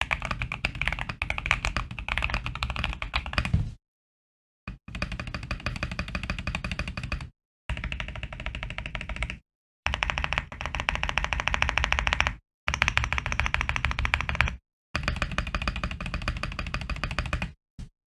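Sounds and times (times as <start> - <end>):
fast typing on mechanical keyboard: 0.0 - 3.5, 4.7 - 17.6.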